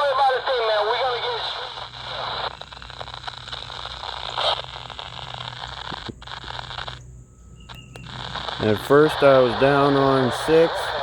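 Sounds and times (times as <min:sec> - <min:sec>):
burst of radio noise: 0:00.0 - 0:07.0, 0:08.0 - 0:11.0
radio static hiss and crackle: 0:00.0 - 0:11.0.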